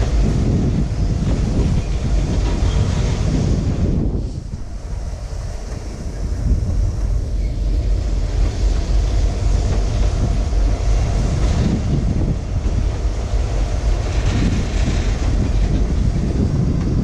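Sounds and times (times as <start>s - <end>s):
train cars rolling past: 0.0s - 17.0s
wind buffeting microphone: 0.0s - 17.0s.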